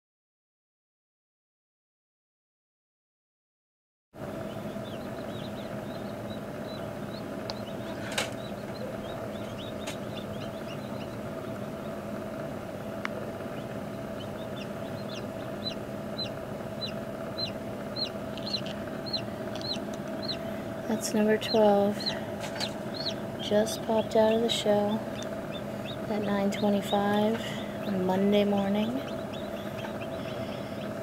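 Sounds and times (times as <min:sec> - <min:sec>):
chick peeping: 0:04.2 - 0:12.2, 0:13.0 - 0:31.0
incubator humming: 0:04.2 - 0:31.0.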